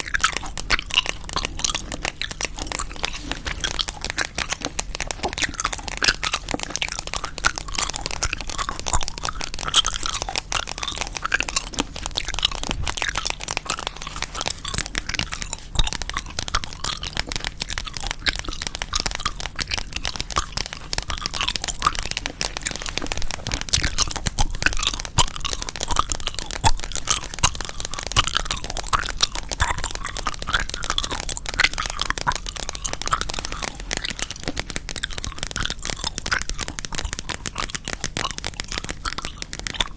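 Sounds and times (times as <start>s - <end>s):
gum chewing: 0.0s - 39.9s.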